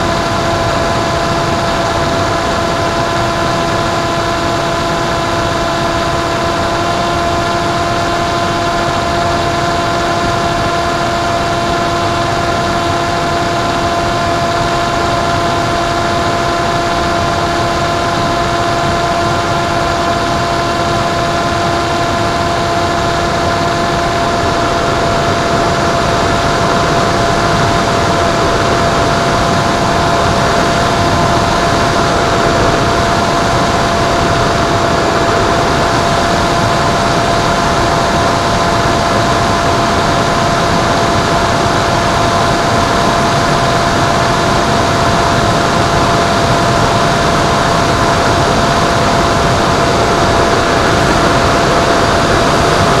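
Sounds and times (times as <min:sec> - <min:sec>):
model plane motor whine: 0:00.0 - 0:53.0.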